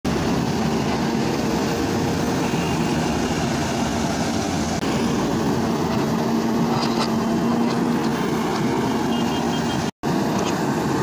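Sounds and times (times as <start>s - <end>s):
excavator diesel engine running: 0.1s - 11.0s.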